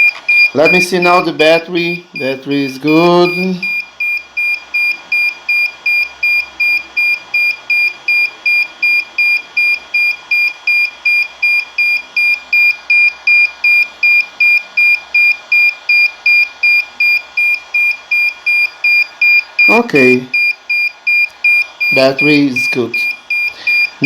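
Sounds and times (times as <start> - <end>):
rapid high-pitched alarm beeps: 0.0 - 24.0.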